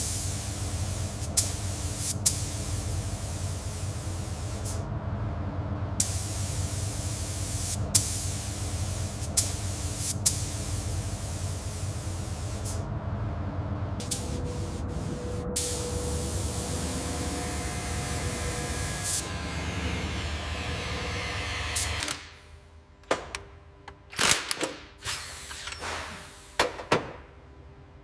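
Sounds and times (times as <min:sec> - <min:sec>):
low steady hum: 0:00.0 - 0:24.2.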